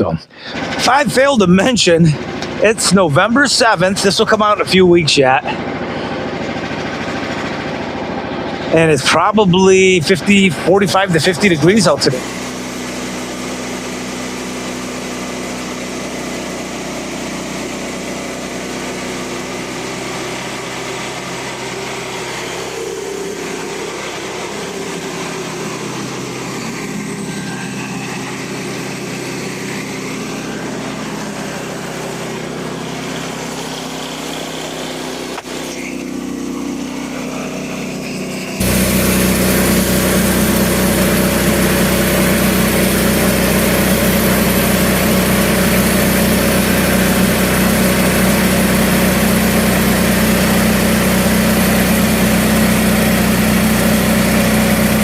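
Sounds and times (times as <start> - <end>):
small gas engine running: 0.0 - 55.0.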